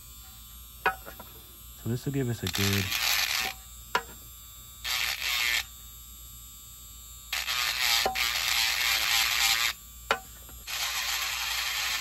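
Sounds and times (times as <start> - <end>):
rotary tool buzzing: 0.0 - 12.0.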